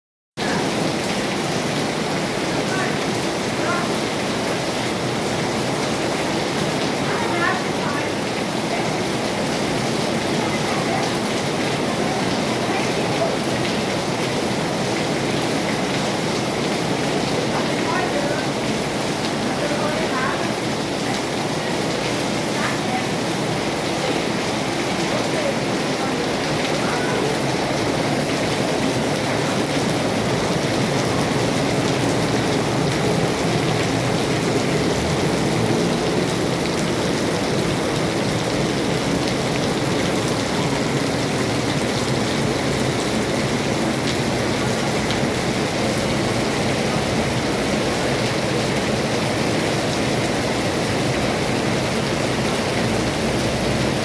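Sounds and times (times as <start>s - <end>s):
rain falling: 0.4s - 54.0s.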